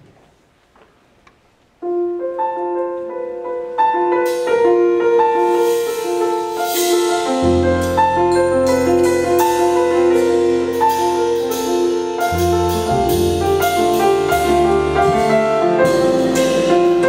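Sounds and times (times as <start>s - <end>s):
grand piano jazz: 0.0s - 17.0s.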